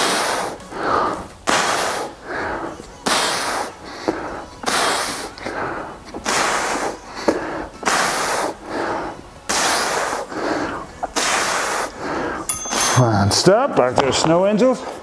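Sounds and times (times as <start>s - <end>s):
man breathing hard: 0.0s - 13.3s.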